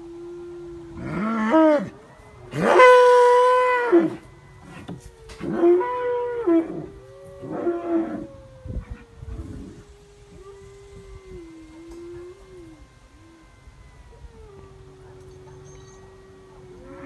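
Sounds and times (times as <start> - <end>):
steady low animal wail: 0.0 - 17.0.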